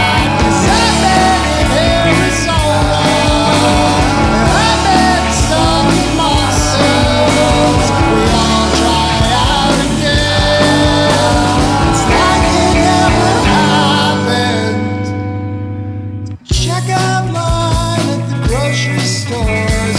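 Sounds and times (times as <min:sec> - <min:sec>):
rock band playing: 0:00.0 - 0:19.9.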